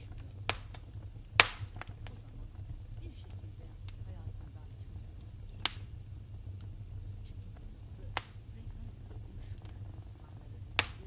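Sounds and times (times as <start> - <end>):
sharp pops of fire: 0.0 - 11.0
wood fire crackling: 0.0 - 11.0.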